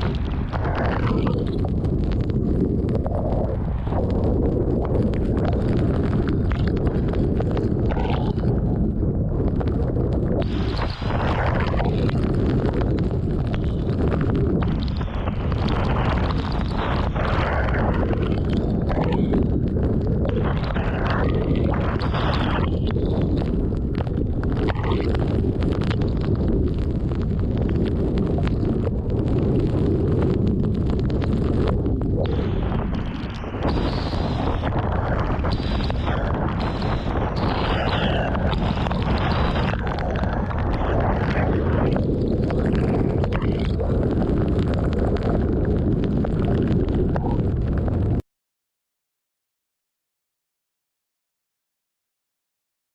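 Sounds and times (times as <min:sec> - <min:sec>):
wind gusting against microphone: 0:00.0 - 0:48.2.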